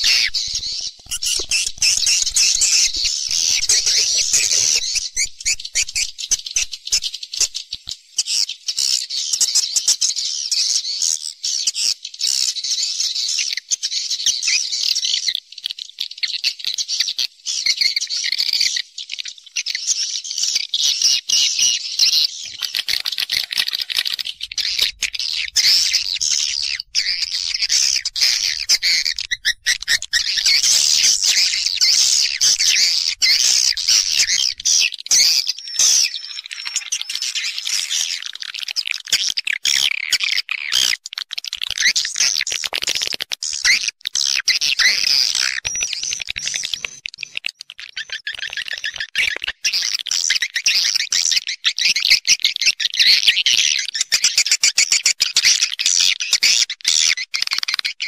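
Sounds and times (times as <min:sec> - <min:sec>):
swiftlets twittering and chirping: 0:00.0 - 0:10.0, 0:20.6 - 0:58.0.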